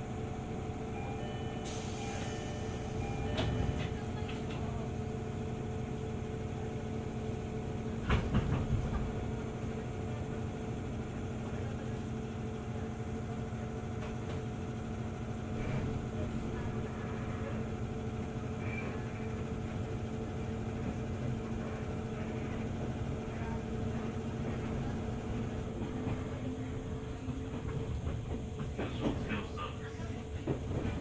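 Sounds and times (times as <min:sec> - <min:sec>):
train car rumble and hum: 0:00.0 - 0:31.0.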